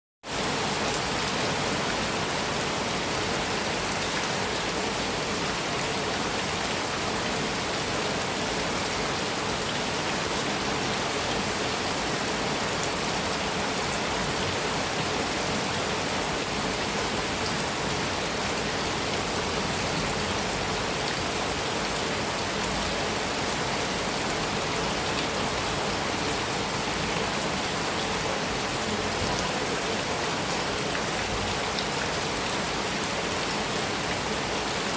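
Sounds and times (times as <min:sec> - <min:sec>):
heavy rain on a metal roof: 0:00.2 - 0:34.9.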